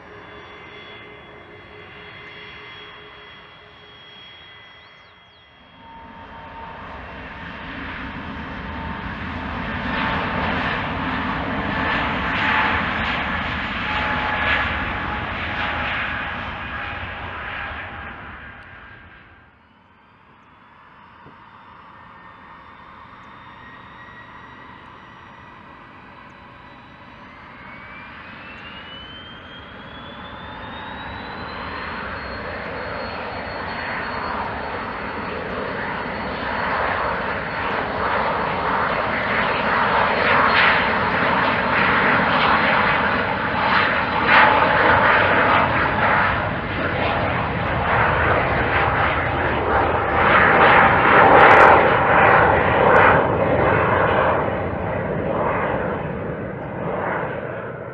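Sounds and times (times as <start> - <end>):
jet engines spooling up: 0.0 - 57.9
jet noise: 0.0 - 57.9.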